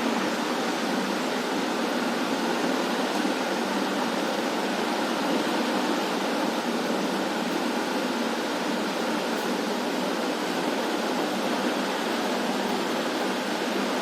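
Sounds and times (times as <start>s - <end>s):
aquarium water rushing: 0.0s - 14.0s.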